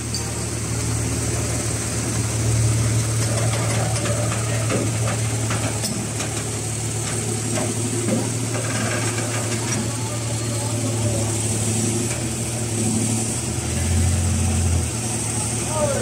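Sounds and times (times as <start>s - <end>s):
diesel truck engine droning: 0.0s - 16.0s.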